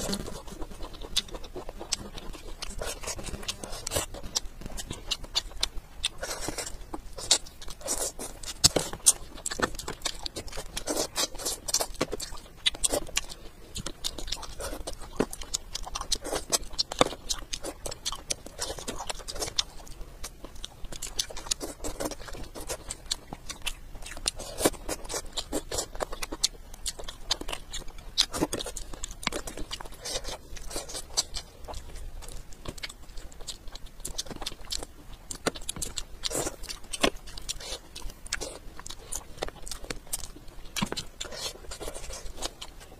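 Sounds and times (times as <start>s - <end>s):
chewing crunchy fish: 0.0s - 42.9s.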